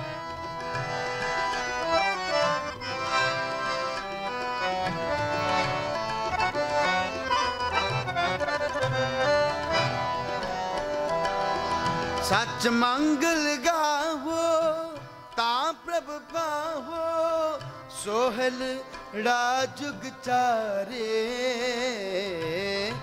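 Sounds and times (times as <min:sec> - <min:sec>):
harmoniums playing melody: 0:00.0 - 0:23.0
tabla rhythm: 0:00.0 - 0:23.0.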